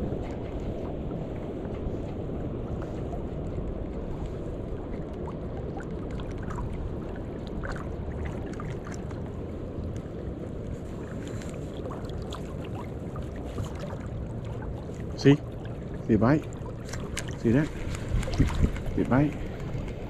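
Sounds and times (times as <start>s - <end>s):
flowing river water: 0.0s - 20.0s
water splashes and gurgles: 0.0s - 20.0s.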